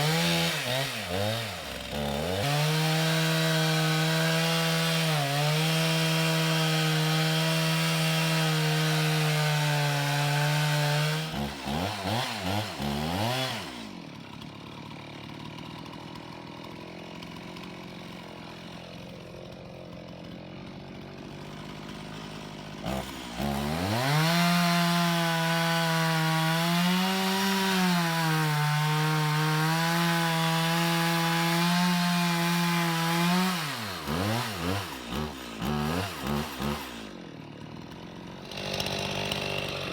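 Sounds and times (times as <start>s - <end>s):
chainsaw cutting tree trunk: 0.0s - 39.9s.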